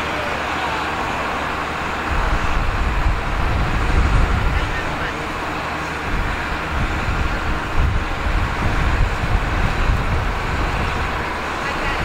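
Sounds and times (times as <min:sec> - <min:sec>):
locomotive engine rumble: 0:00.0 - 0:12.0
wind buffeting microphone: 0:00.0 - 0:12.0.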